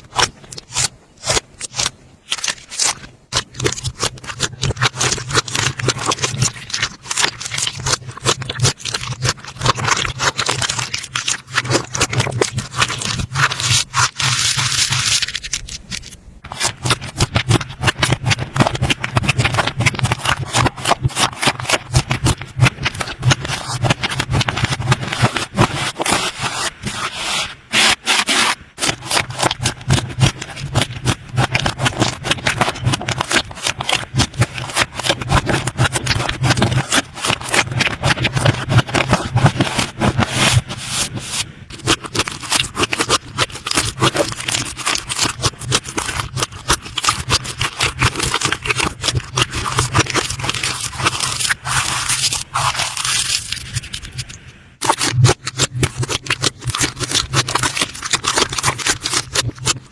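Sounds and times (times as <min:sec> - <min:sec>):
slime squished by hand: 0:00.0 - 0:59.9.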